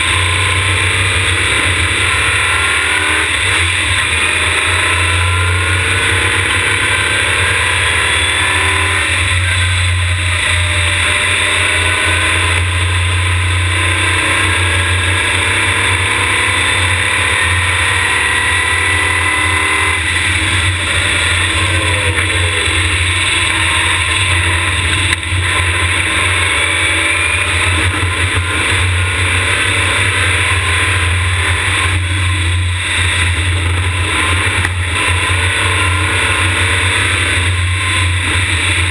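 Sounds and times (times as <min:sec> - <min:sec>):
race car engine accelerating: 0:00.0 - 0:38.9
wind and road rumble: 0:00.0 - 0:38.9.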